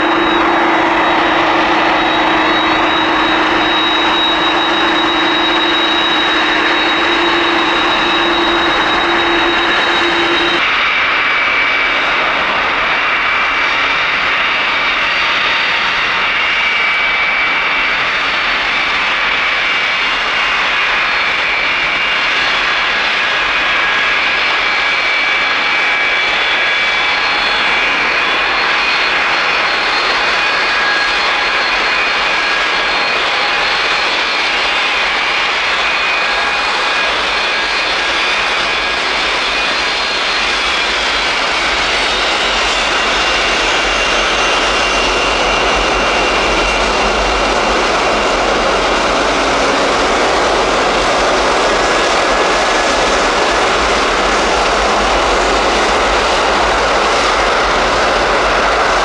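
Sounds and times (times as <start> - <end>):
jet engines roaring and whining: 0.0 - 59.0.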